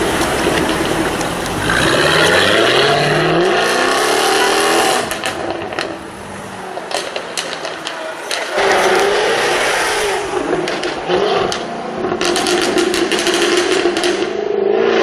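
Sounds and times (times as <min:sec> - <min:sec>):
exhaust pops and crackles: 0:00.0 - 0:14.5
car engine accelerating hard: 0:00.0 - 0:15.0.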